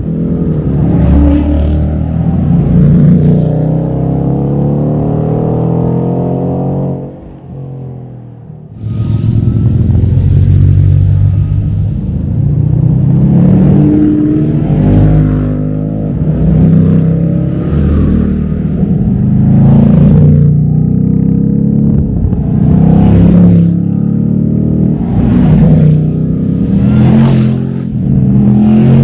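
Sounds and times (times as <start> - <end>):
car engines accelerating hard: 0.0 - 29.0.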